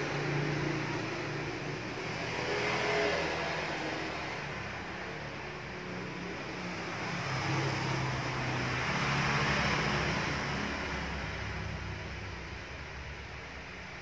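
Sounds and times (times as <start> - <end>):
vehicle engine passing by: 0.0 - 5.4, 6.5 - 12.5.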